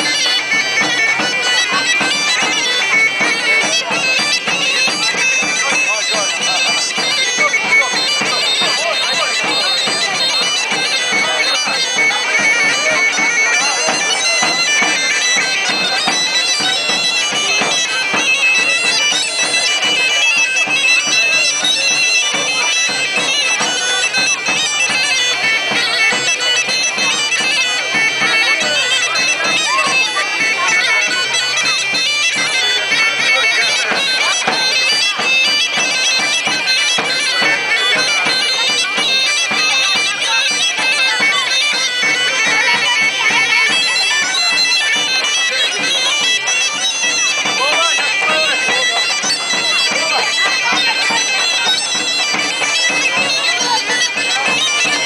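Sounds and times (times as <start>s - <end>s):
bagpipe dance tune over drone: 0.0s - 55.0s.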